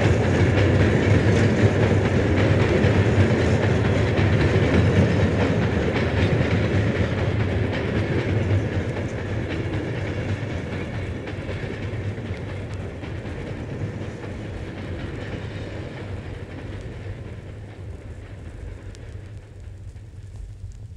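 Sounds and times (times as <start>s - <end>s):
train running on rails: 0.0s - 20.9s.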